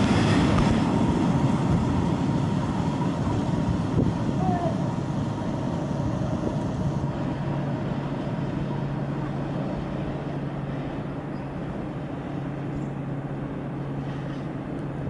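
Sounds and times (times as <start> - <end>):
freight train rumbling on rails: 0.0 - 15.0
low hum: 0.0 - 15.0.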